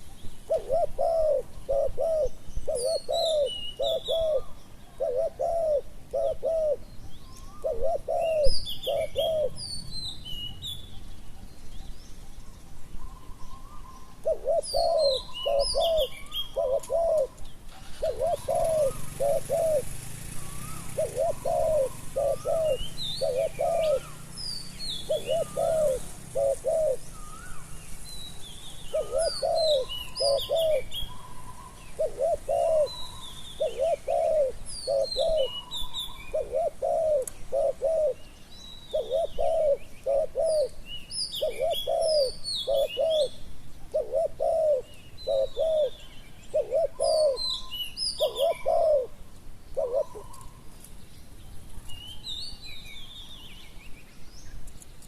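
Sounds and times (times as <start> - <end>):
doves cooing: 0.0 - 9.6, 12.4 - 28.0, 28.7 - 50.8
small birds chirping: 0.0 - 55.0.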